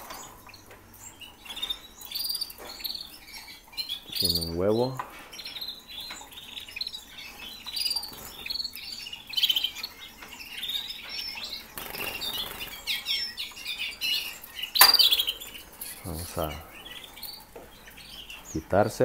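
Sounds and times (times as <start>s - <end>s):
canaries chirping and trilling: 0.0s - 19.0s.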